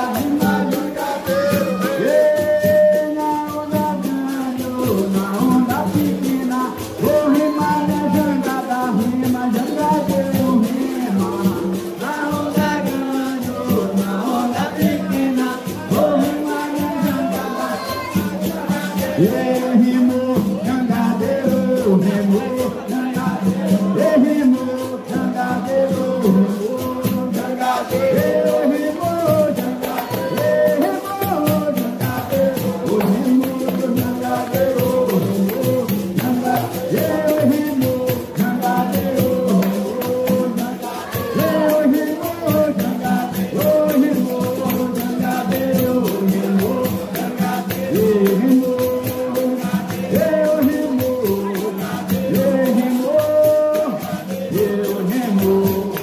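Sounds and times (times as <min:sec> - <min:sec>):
person singing: 0:00.0 - 0:56.0
rhythmic percussion: 0:00.0 - 0:56.0.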